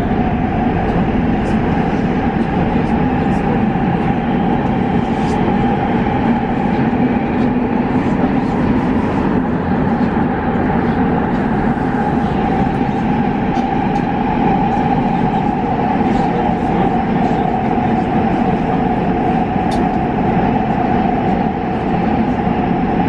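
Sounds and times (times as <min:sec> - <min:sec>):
constant hum: 0:00.0 - 0:23.0
metro train wheels rumbling: 0:00.0 - 0:23.0.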